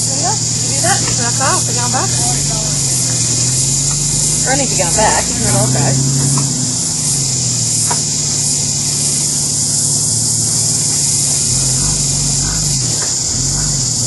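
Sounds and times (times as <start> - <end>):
engine revving: 0.0 - 14.0
high-pitched hiss: 0.0 - 14.0.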